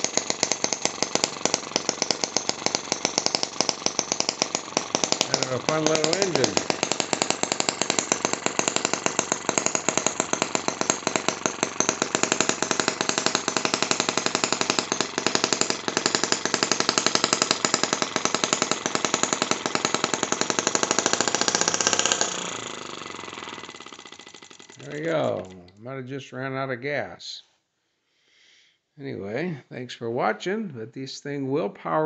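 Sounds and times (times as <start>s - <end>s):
model engine running: 0.0s - 25.8s.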